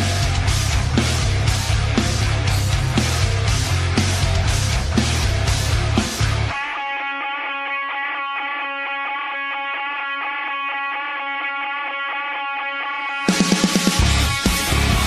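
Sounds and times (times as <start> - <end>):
electric guitar picking: 0.0 - 15.0
heavy rock music: 0.0 - 15.0.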